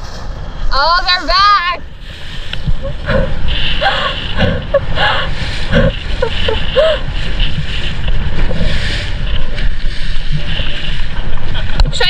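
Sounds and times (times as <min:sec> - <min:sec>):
boat rumble on water: 0:00.0 - 0:12.0
wind buffeting microphone: 0:00.0 - 0:12.0.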